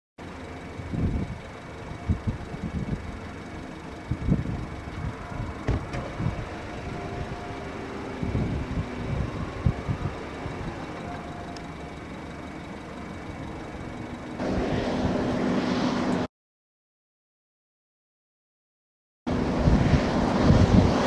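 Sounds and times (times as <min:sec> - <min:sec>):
vehicle rumble: 0:00.2 - 0:16.3, 0:19.3 - 0:21.0.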